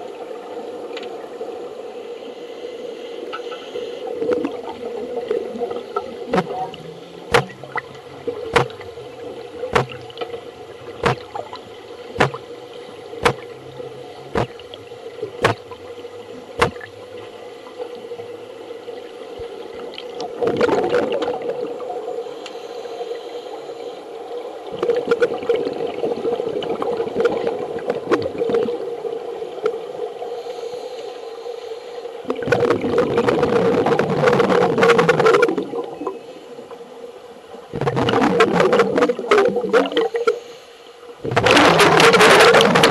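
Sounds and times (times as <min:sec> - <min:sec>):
underwater hum: 0:00.0 - 0:42.9
scuba bubbles gurgling: 0:03.2 - 0:22.4, 0:23.2 - 0:30.8, 0:32.2 - 0:40.5, 0:41.2 - 0:42.9.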